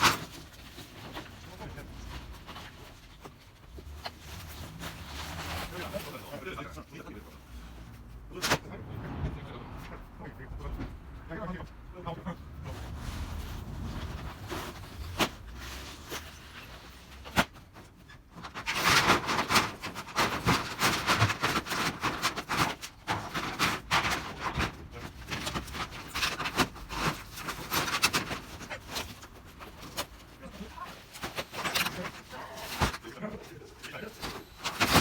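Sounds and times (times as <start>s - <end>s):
corrugated iron clattering and scraping: 0.0s - 8.7s, 12.6s - 35.0s.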